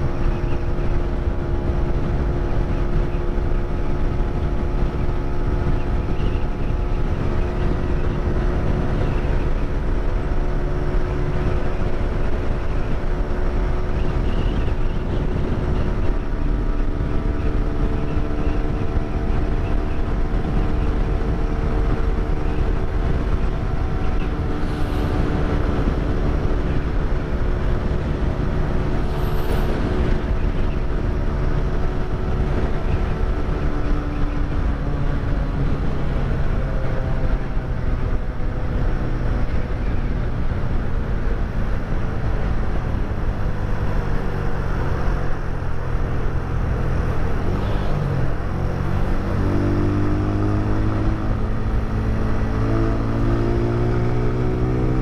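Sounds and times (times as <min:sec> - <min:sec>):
motorcycle engine running: 0:00.0 - 0:55.0
wind noise rushing: 0:00.0 - 0:55.0.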